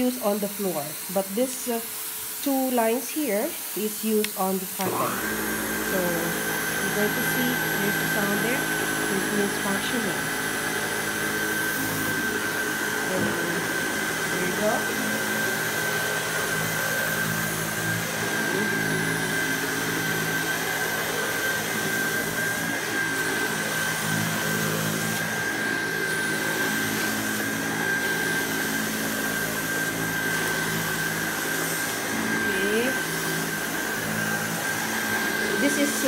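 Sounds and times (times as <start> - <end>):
vacuum powerhead on carpet: 0.0 - 36.0.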